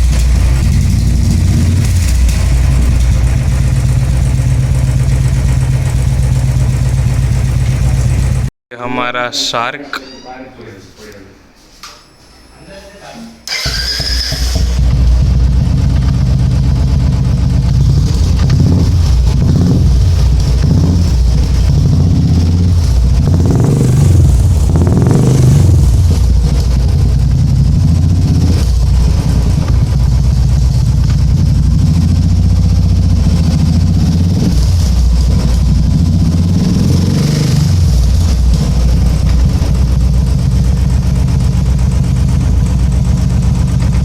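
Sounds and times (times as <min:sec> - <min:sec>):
motorcycle engine running: 0:00.0 - 0:08.5, 0:13.5 - 0:44.0.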